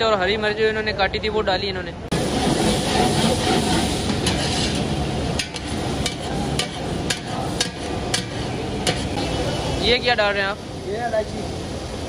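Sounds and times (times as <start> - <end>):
vegetables sizzling in a pot: 2.1 - 12.0.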